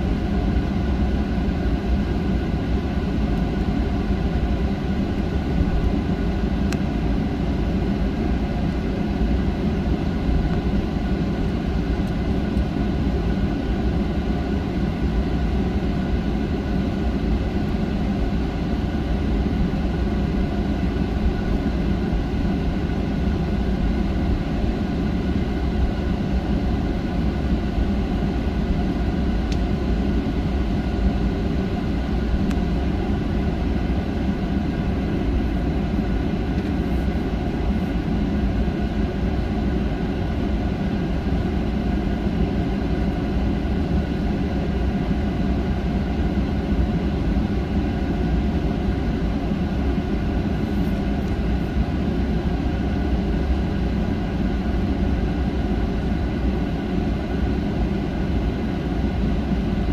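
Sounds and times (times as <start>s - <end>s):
jet engine low rumble: 0.0s - 59.9s.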